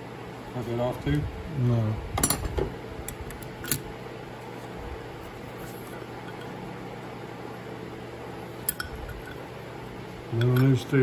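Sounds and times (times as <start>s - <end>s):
workshop hum: 0.0s - 11.0s.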